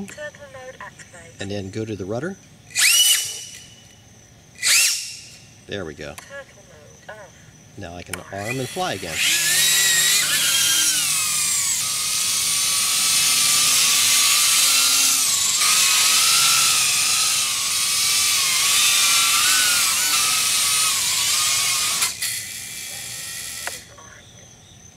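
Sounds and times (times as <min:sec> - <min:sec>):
drone motor whine: 0:02.7 - 0:05.9, 0:06.7 - 0:24.0.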